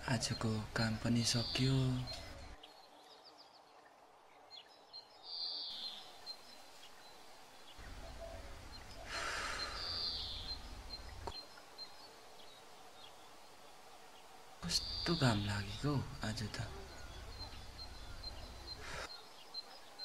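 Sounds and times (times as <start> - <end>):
bird calls: 0.0 - 20.0.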